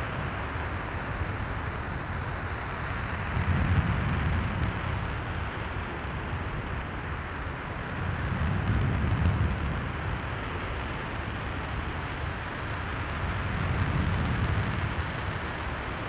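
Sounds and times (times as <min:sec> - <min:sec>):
rocket engine roaring: 0:00.0 - 0:16.0.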